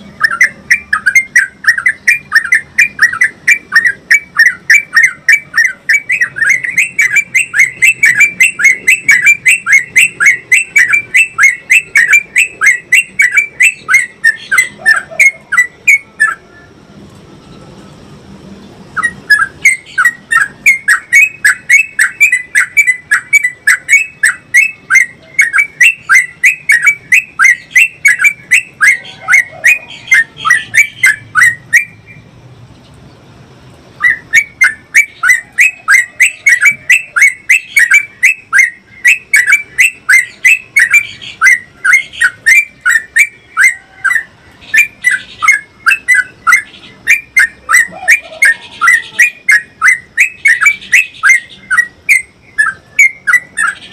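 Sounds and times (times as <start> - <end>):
bird singing sharp chirps: 0.0 - 16.8, 18.6 - 33.2, 33.9 - 53.9.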